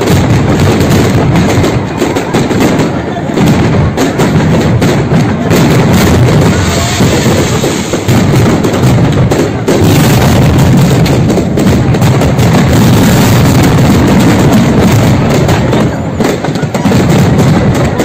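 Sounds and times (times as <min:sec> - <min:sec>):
fireworks and firecrackers exploding: 0:00.0 - 0:18.0.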